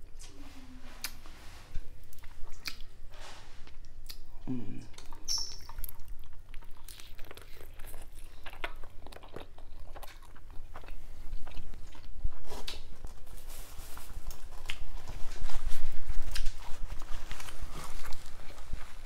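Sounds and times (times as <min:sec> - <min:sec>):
person chewing and crunching food: 0:01.0 - 0:19.0.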